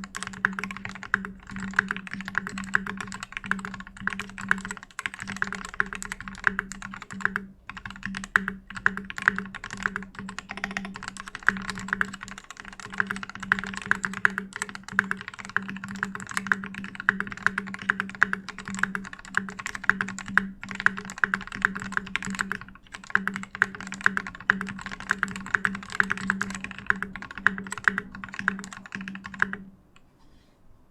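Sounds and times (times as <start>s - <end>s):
fast typing on mechanical keyboard: 0.0s - 29.7s.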